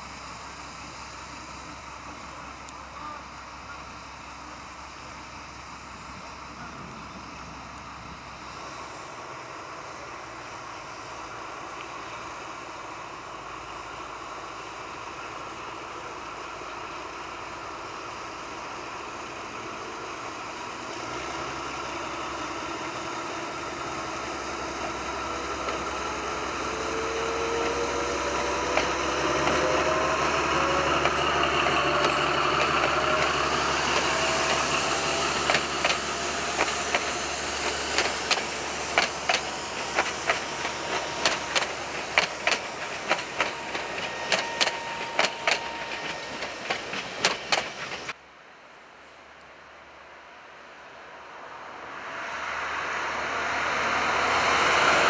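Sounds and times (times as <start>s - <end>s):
diesel locomotive engine: 0.0s - 55.0s
wheels clacking over rail joints: 0.4s - 48.2s.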